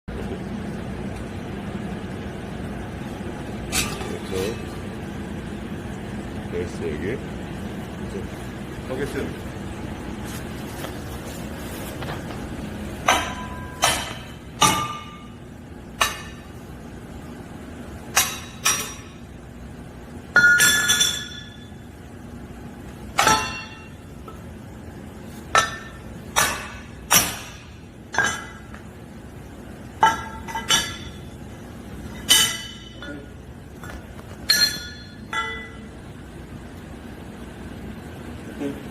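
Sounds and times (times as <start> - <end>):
faint machine hum: 0.1 - 38.9.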